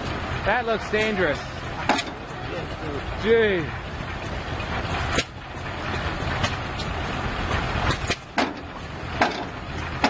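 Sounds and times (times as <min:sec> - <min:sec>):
log splitter mechanical rumble: 0:00.0 - 0:10.0.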